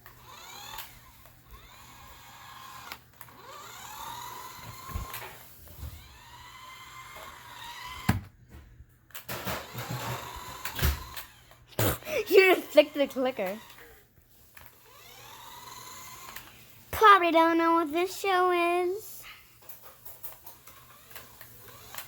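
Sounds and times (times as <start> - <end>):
small electric motor whining: 0.0 - 8.2, 9.3 - 22.0.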